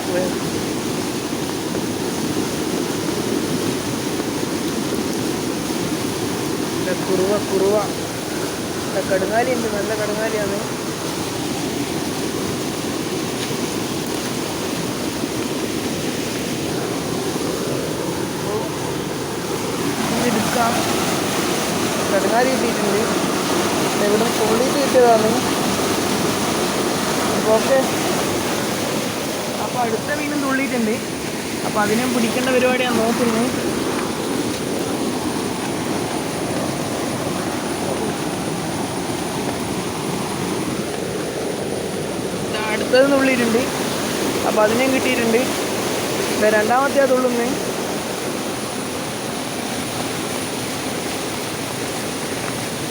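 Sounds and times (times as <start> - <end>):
rainwater rushing from drainage pipe: 0.0 - 52.9.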